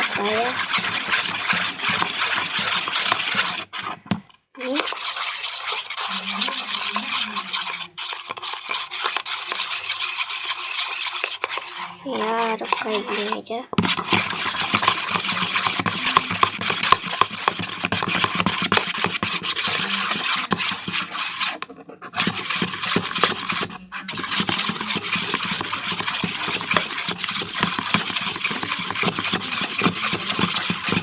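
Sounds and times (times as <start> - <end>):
spoon stirring in a container: 0.0 - 31.0.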